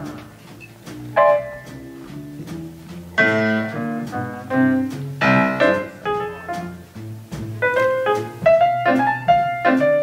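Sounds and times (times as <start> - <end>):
bass line: 0.0 - 10.0
jazz big band playing swing: 0.0 - 10.0
loud band chord: 0.0 - 10.0.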